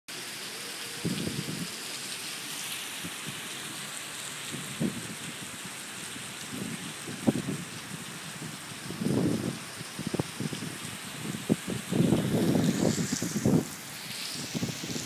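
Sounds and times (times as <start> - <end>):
heavy rain on pavement: 0.1 - 15.0.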